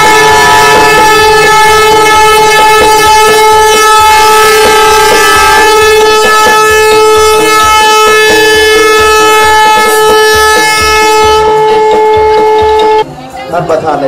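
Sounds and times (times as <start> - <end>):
air horn blast: 0.0 - 13.0.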